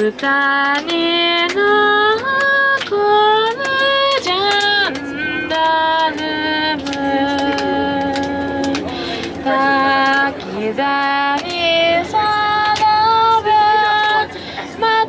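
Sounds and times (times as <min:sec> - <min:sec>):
high singing voice: 0:00.0 - 0:15.0.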